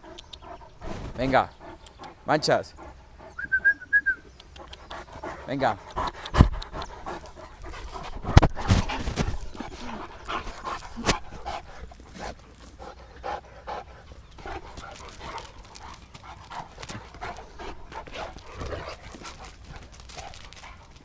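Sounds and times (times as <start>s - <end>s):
dog panting: 0.0s - 3.6s, 4.3s - 21.0s.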